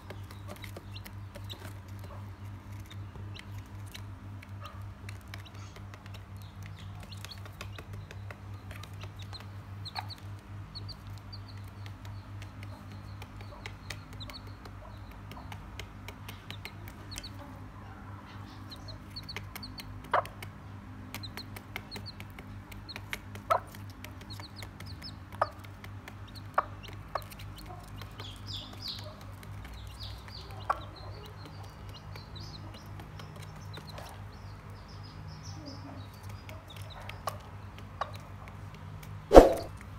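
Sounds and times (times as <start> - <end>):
beak pecking on cardboard: 0.0 - 17.7, 18.4 - 39.9
chicks peeping: 0.0 - 39.8.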